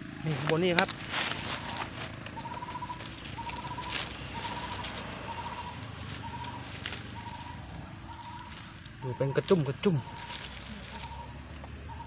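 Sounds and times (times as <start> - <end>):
dry leaves rustling: 0.0 - 11.6
low steady rumble: 0.0 - 12.0
bird calling trilled note: 1.4 - 12.0.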